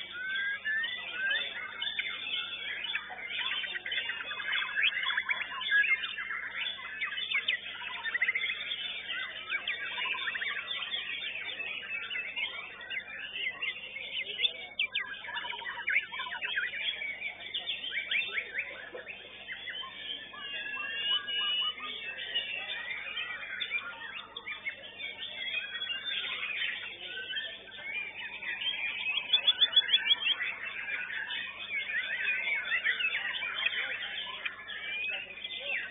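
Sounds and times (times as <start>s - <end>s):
birds singing: 0.0s - 35.9s
songbirds whistling and trilling: 0.0s - 35.9s.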